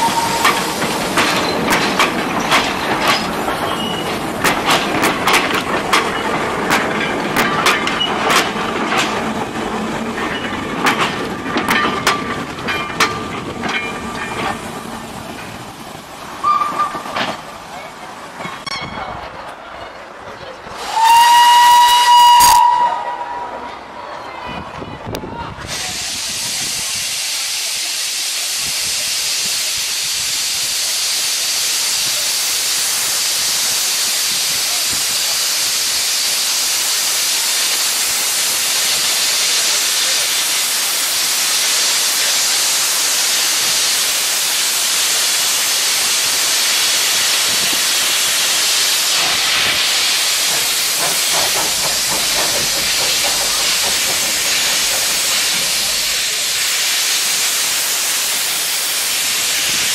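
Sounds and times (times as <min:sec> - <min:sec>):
steam locomotive hissing: 0:00.0 - 0:19.4, 0:20.6 - 0:59.9
locomotive rhythmic chuffing: 0:00.0 - 0:20.7, 0:31.0 - 0:59.9.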